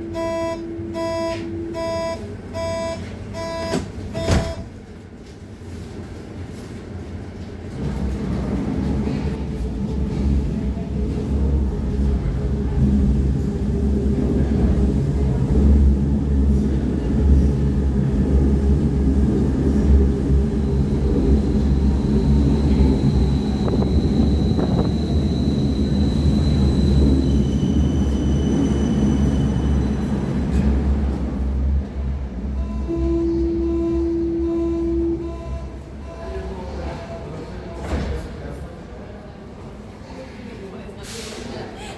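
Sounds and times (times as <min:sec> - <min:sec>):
train low rumble: 0:00.0 - 0:41.9.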